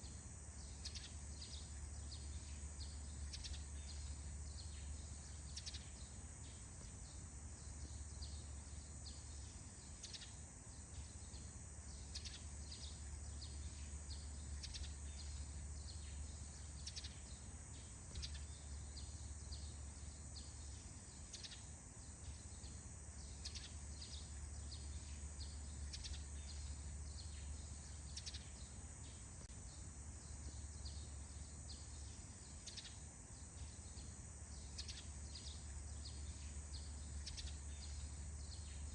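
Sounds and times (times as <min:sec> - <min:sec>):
steady high hiss: 0:00.0 - 0:38.9
birds chirping: 0:00.4 - 0:38.9.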